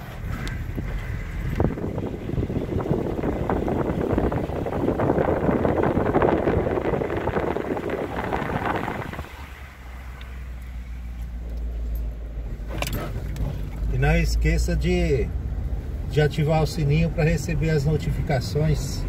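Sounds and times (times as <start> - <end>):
low engine drone: 0.0 - 19.0
rattling road noise: 0.0 - 19.0.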